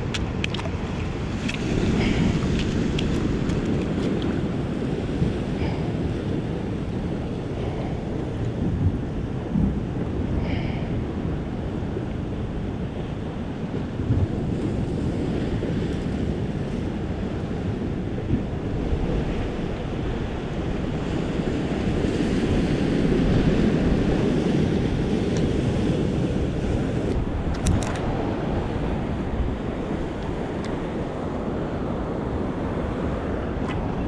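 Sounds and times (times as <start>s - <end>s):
surf washing against rocks: 0.0s - 34.0s
wind buffeting microphone: 0.0s - 34.0s.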